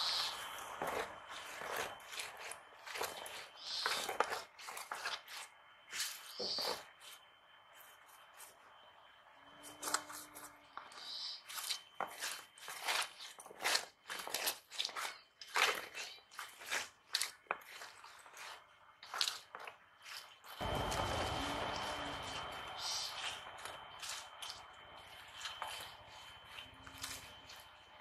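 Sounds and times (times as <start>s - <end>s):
fish rustling on bamboo tray: 0.1s - 7.2s, 11.4s - 28.0s.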